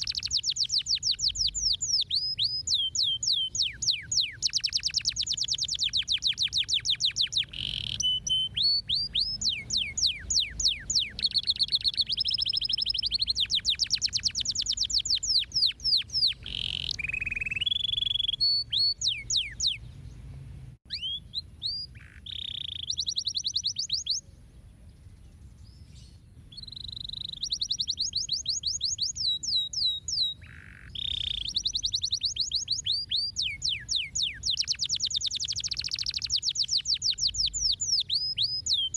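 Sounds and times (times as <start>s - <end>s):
canary singing: 0.0s - 20.3s, 20.9s - 38.9s.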